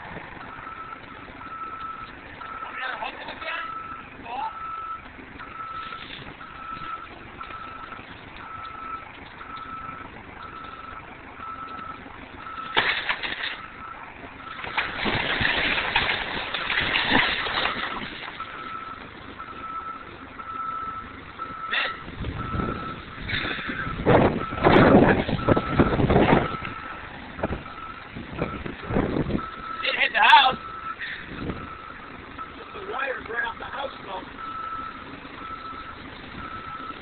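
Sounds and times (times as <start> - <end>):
backup alarm beeping: 0.4 - 12.8, 13.6 - 14.8, 17.7 - 27.0, 27.6 - 37.0.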